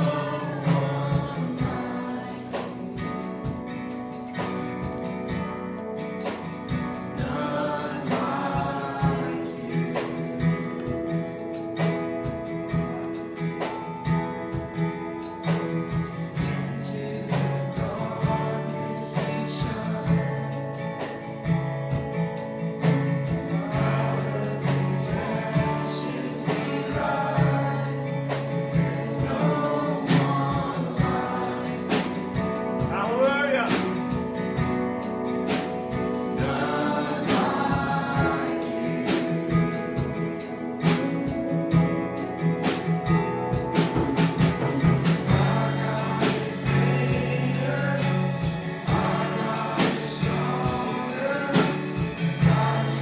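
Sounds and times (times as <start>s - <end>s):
gospel worship music: 0.0s - 53.0s.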